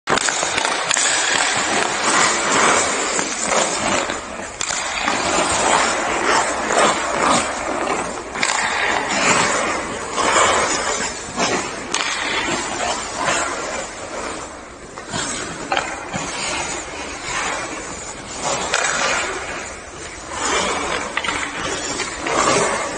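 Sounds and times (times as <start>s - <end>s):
skates scraping on ice: 0.1s - 22.9s
stick clicking on puck: 0.1s - 22.9s.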